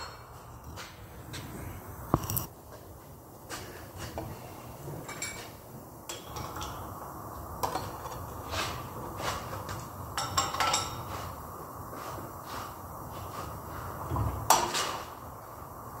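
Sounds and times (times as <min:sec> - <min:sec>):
low shop hum: 0:00.0 - 0:16.0.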